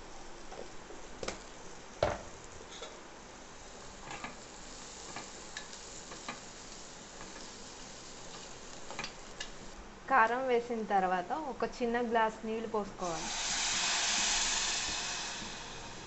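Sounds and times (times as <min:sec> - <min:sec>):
steady sizzle: 0:00.0 - 0:16.0.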